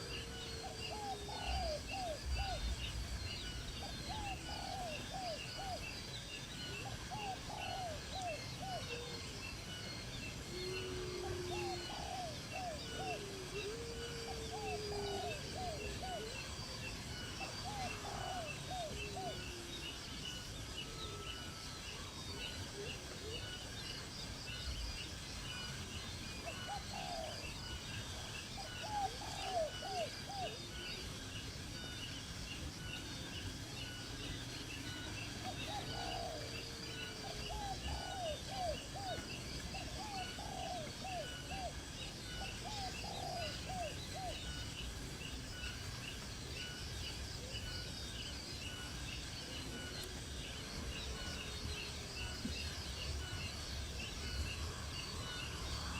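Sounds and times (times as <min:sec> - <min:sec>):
bird song with arched notes: 0:00.0 - 0:55.9.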